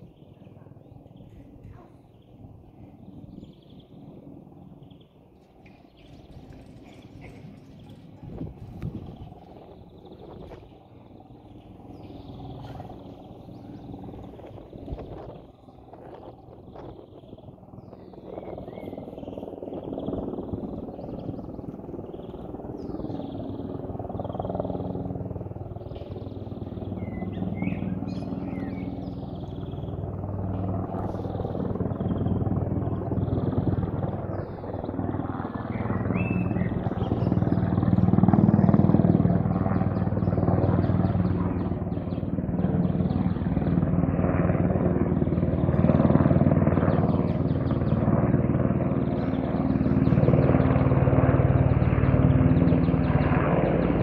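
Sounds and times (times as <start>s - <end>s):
helicopter rotor and engines: 0.0s - 54.0s.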